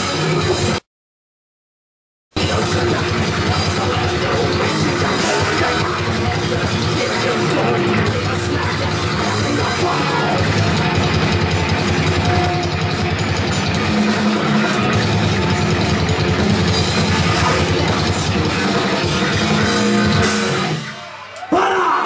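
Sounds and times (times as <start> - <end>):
distorted electric guitars: 0.0 - 0.8, 2.4 - 21.5
live rock band playing: 0.0 - 0.8, 2.4 - 21.4
pounding drum kit: 0.0 - 0.8, 2.4 - 21.7.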